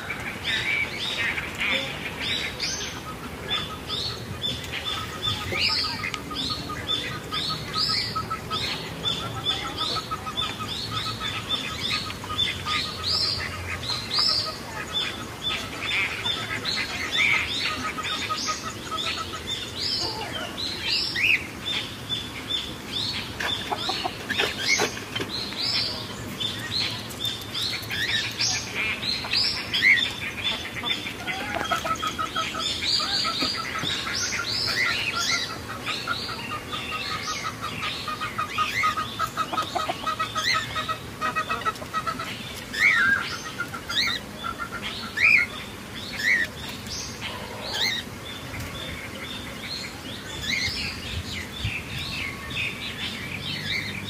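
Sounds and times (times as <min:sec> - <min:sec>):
fast repeated bird chatter: 0:00.0 - 0:22.3, 0:23.0 - 0:51.2
birds chirping and calling: 0:00.0 - 0:54.0.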